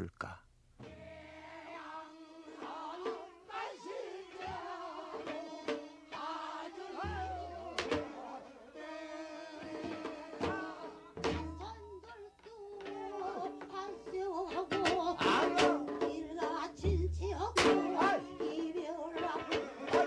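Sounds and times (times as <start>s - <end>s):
folk singing: 0.8s - 20.0s
percussion strikes: 0.8s - 20.0s.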